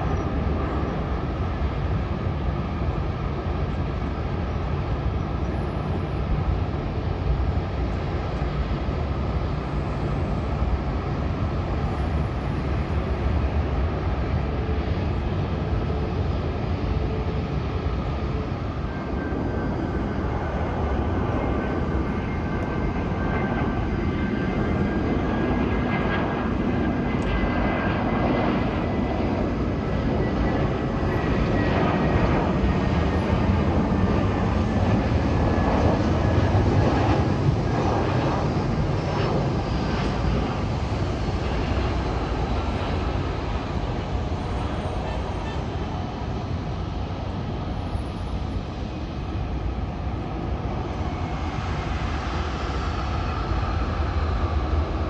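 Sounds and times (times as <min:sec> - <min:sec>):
jet airliner engines passing: 0:00.0 - 0:55.0.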